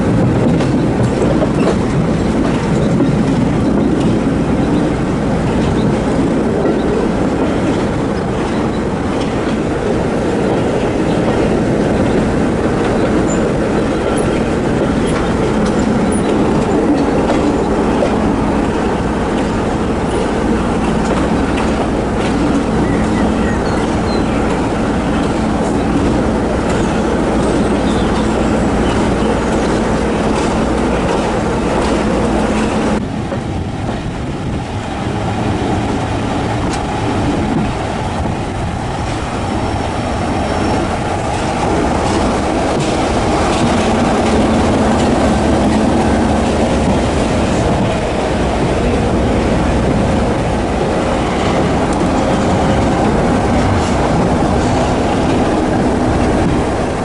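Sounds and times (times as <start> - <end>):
train wheels clattering on rails: 0.0 - 57.0
wind rush: 0.0 - 57.0.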